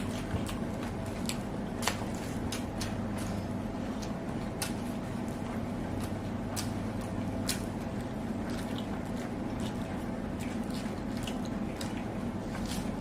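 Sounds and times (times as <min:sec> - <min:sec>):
chewing and wet mouth smacks: 0:00.0 - 0:05.1, 0:05.9 - 0:13.0
steady low hum: 0:00.0 - 0:13.0.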